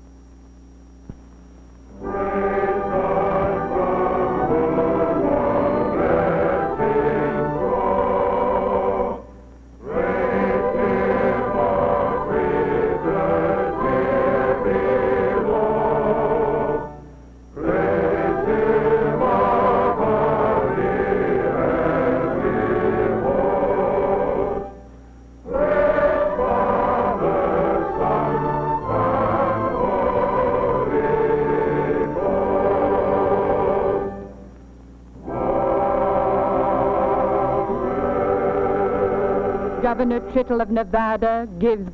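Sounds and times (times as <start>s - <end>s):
choir singing: 2.0s - 24.8s, 25.4s - 34.4s, 35.2s - 40.7s.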